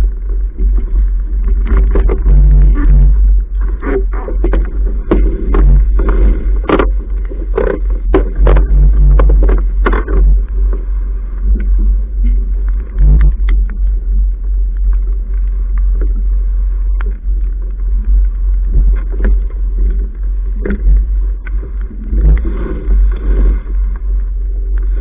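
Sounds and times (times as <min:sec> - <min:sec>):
knocks and clicks from boat rigging: 0:00.5 - 0:10.8, 0:11.5 - 0:14.0, 0:14.7 - 0:25.0.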